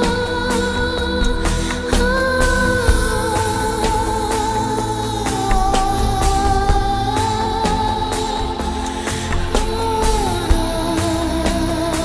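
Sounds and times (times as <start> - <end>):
dance-pop music: 0.0 - 12.0.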